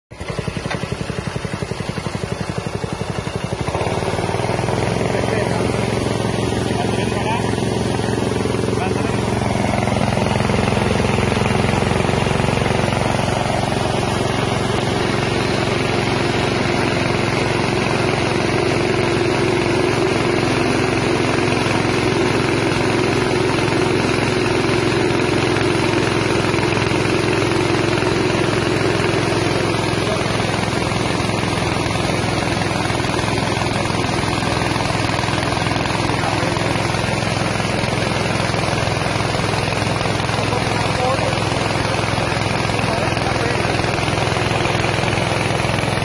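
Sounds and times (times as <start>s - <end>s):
small engine running: 0.1s - 46.0s.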